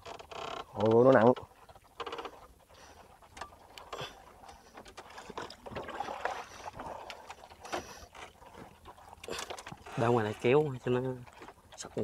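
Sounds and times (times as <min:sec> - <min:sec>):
water splashing and dripping: 0:00.0 - 0:12.0.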